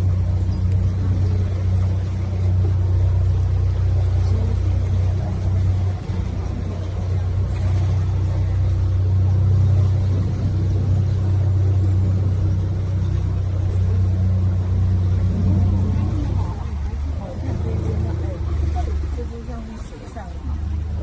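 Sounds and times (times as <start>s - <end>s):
boat motor droning: 0.0s - 21.0s.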